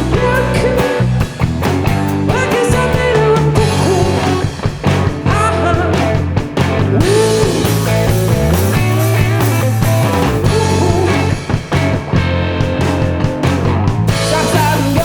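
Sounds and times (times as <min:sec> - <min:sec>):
electric guitar bent notes: 0:00.0 - 0:15.0
rock band playing live: 0:00.0 - 0:15.0.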